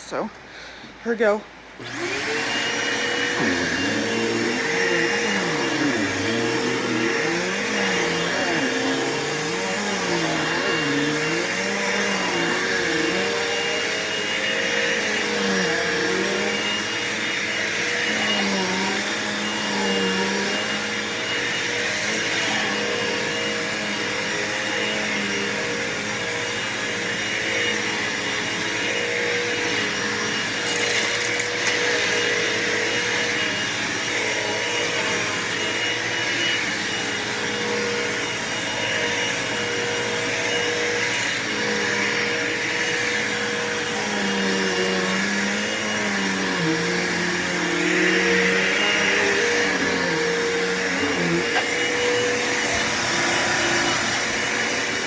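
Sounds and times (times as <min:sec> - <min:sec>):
vacuum cleaner motor whine: 0:01.2 - 0:55.0.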